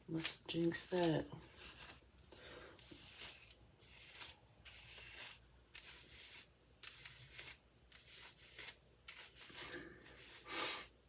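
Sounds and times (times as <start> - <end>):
hair rustling strokes: 0.1 - 2.1, 2.7 - 11.0.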